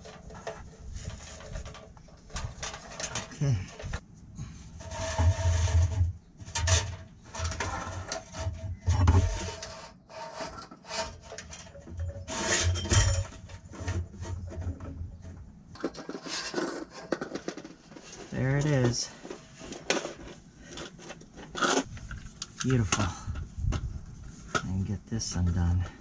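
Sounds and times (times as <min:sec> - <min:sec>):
wires scraping against metal: 0:00.0 - 0:04.0, 0:04.6 - 0:25.9.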